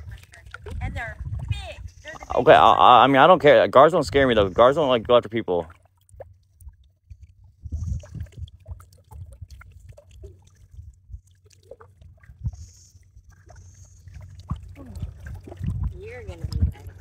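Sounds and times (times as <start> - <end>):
water splashing from wading: 0.0 - 17.0.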